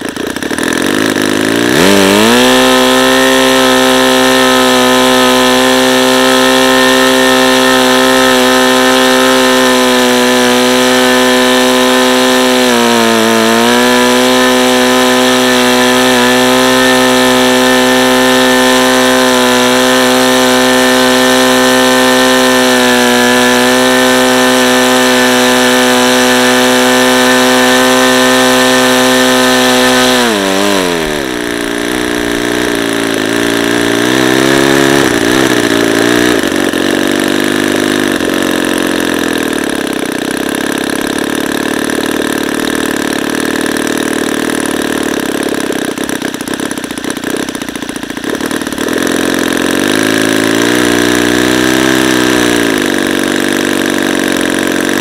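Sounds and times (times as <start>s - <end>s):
model airplane engine running: 0.0s - 55.0s.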